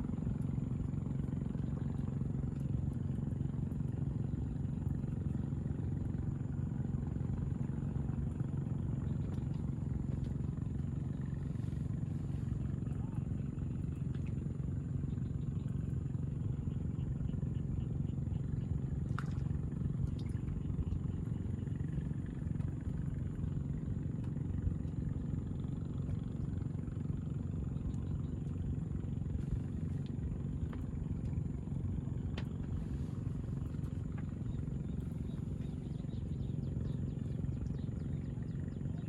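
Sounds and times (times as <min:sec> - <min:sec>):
low motor rumble: 0:00.0 - 0:39.0.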